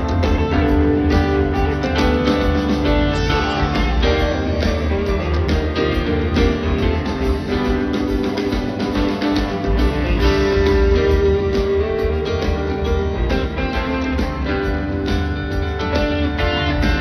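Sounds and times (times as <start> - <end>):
live rock band through pa: 0.0 - 17.0.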